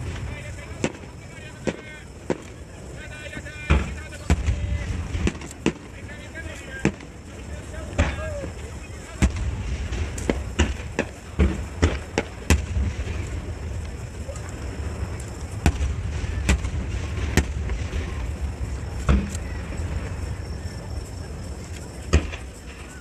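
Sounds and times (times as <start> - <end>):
fireworks bangs: 0.0 - 23.0
steady low rumble: 0.0 - 23.0.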